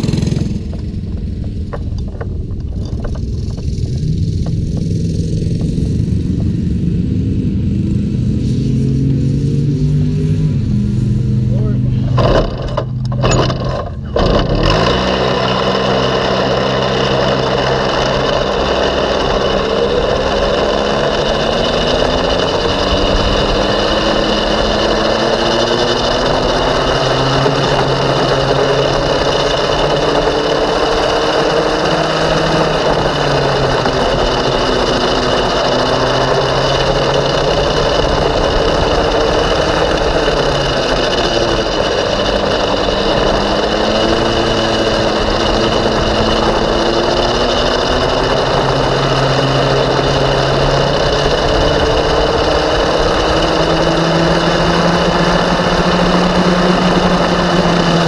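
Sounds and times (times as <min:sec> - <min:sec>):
go-kart engine accelerating: 0:00.0 - 0:58.0.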